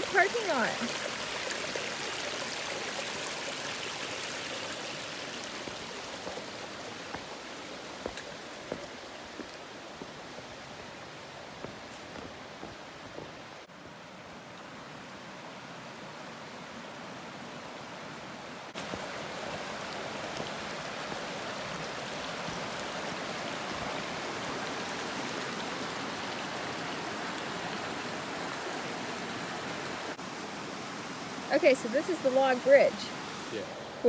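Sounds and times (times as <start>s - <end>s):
mountain stream rushing: 0.0s - 34.0s.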